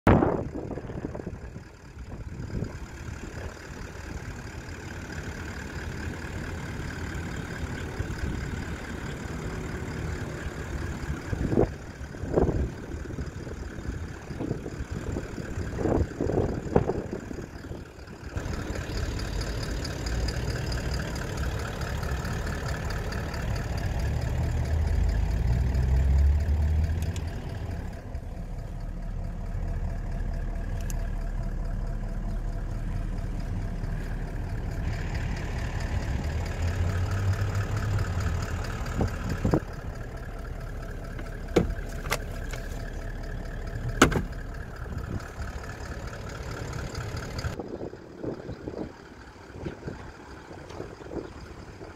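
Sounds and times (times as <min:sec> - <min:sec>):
vehicle engine idling: 0:00.1 - 0:51.9.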